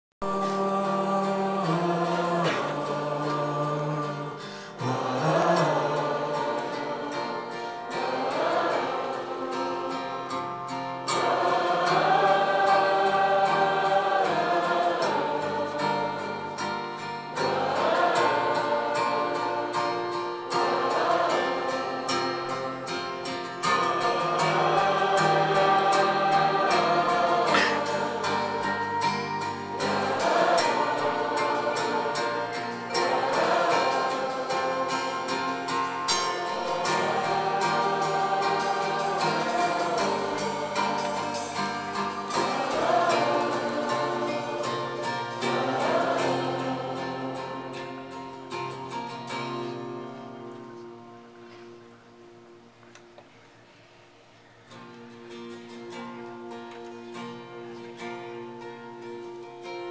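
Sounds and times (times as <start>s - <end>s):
many voices singing together: 0.2s - 50.7s
acoustic guitar: 0.2s - 59.9s
keyboard: 0.3s - 49.7s.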